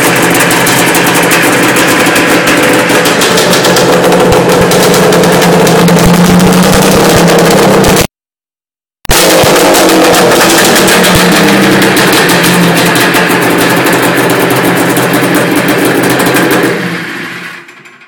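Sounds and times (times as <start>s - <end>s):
snowmobile engine running: 0.0s - 8.1s, 9.1s - 17.3s.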